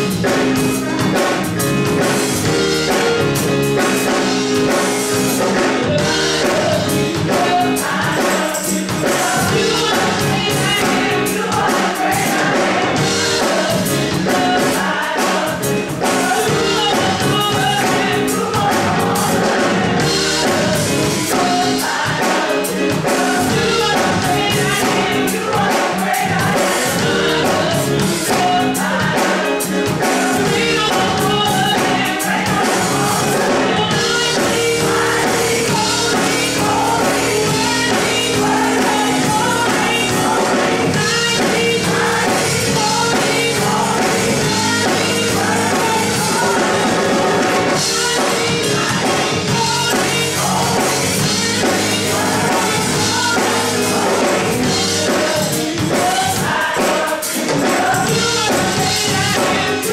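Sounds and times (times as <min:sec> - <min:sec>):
gospel choir singing: 0:00.0 - 0:59.9
instrumental backing with beat: 0:00.0 - 0:59.9
woman singing lead: 0:04.0 - 0:59.9.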